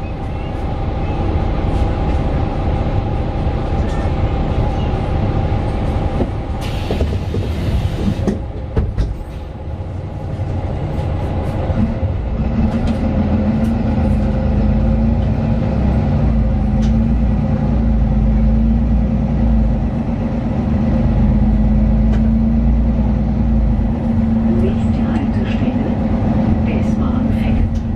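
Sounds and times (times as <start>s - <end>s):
bus interior engine drone: 0.0s - 27.9s.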